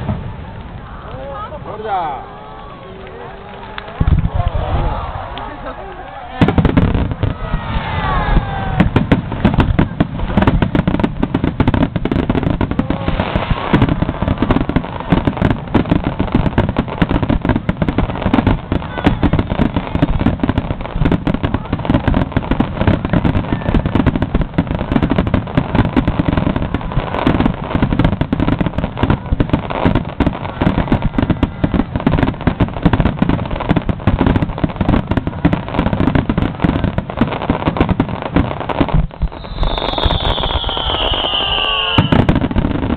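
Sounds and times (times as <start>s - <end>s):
fireworks bangs and crackling: 0.0s - 42.9s
whistling fireworks: 0.0s - 42.9s.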